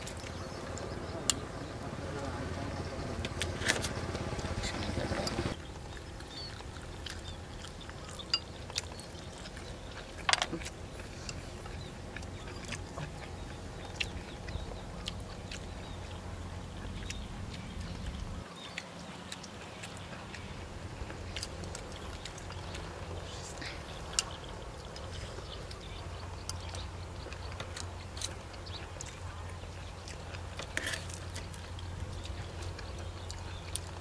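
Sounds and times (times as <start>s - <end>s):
chewing: 0.0s - 34.0s
low background rumble: 0.0s - 34.0s.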